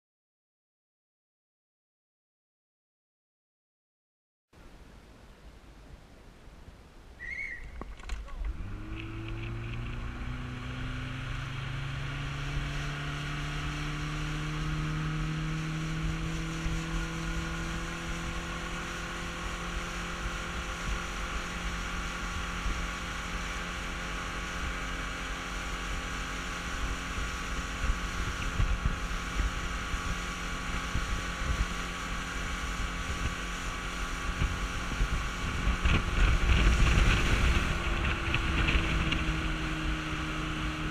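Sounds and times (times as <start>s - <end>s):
motorboat engine: 7.9s - 40.9s.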